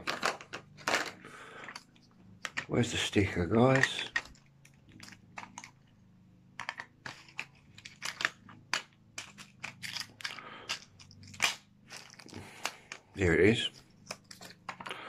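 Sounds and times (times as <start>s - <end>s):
clicks and taps of plastic parts: 0.0s - 2.7s, 3.7s - 5.9s, 6.6s - 13.2s, 13.8s - 15.0s.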